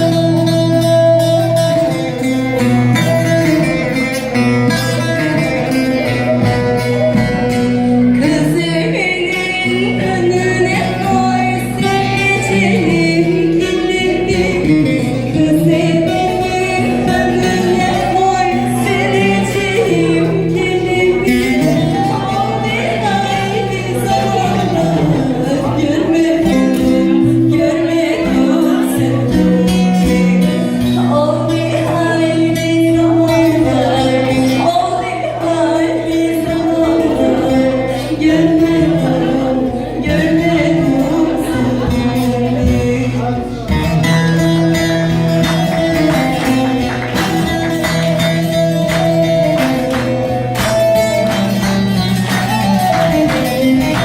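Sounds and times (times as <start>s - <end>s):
person singing: 0.0s - 54.0s
plucked strings: 0.0s - 54.0s.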